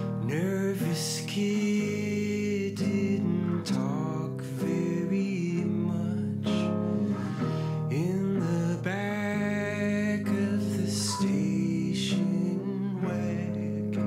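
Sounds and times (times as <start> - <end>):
electric guitar melody: 0.0 - 14.0.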